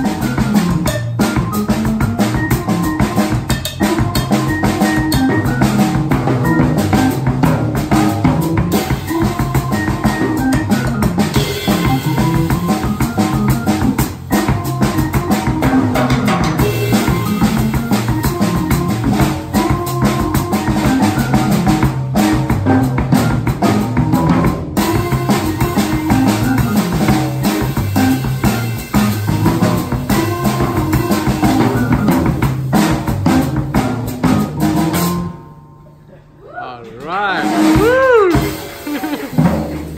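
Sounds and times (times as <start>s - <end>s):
electronic organ playing: 0.0s - 35.5s
drum kit playing: 0.0s - 36.1s, 37.0s - 39.9s.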